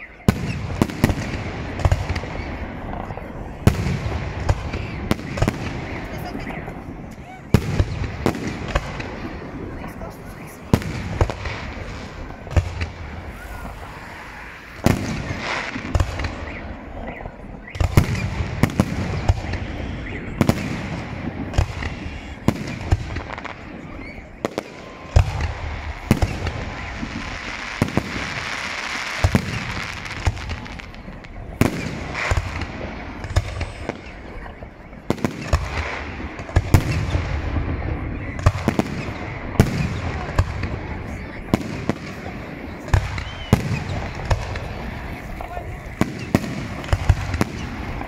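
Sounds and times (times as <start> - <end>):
fireworks bursting with bangs: 0.0 - 48.0
fireworks crackling hiss: 0.3 - 48.0.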